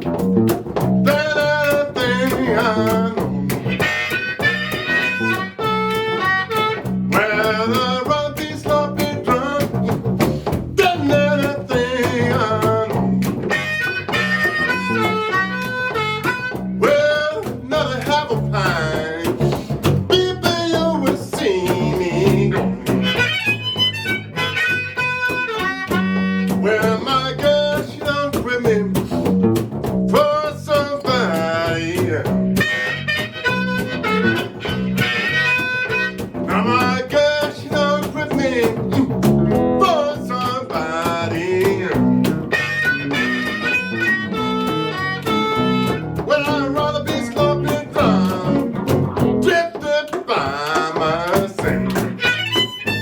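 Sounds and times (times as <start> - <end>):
guitar accompaniment: 0.0 - 53.0
harmonica playing blues: 0.0 - 53.0
walking bass line: 0.0 - 53.0.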